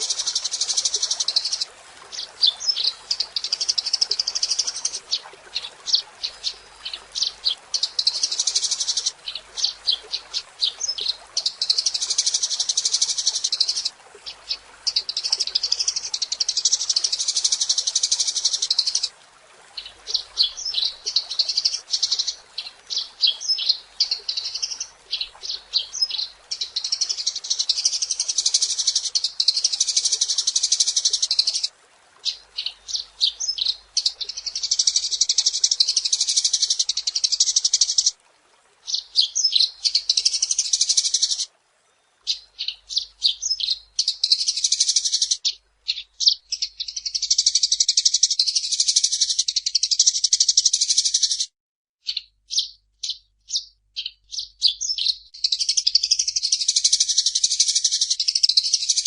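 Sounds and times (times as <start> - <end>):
sparrows chirping: 0.0 - 19.1, 19.8 - 38.1, 38.8 - 41.4, 42.2 - 59.0.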